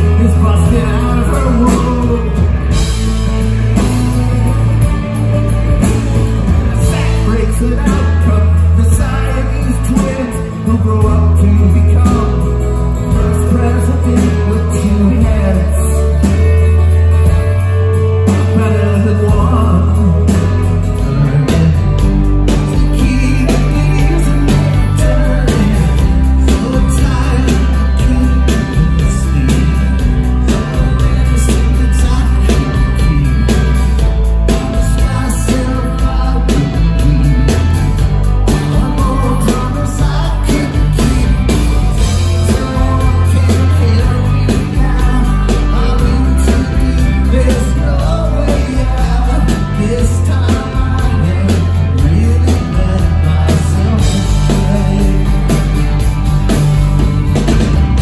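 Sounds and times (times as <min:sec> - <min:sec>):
person singing: 0:00.0 - 0:56.0
rock band playing live: 0:00.0 - 0:58.0.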